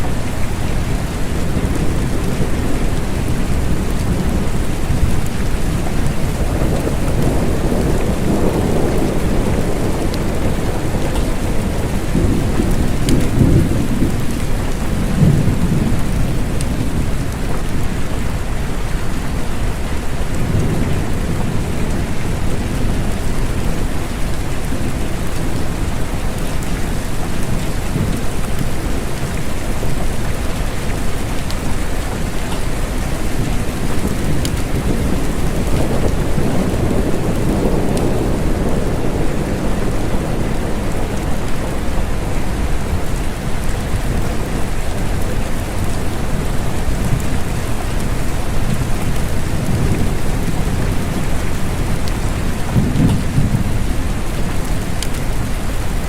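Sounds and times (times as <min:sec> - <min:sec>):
steady rain: 0:00.0 - 0:56.0
distant thunder rumbling: 0:00.1 - 0:18.4, 0:20.4 - 0:56.0.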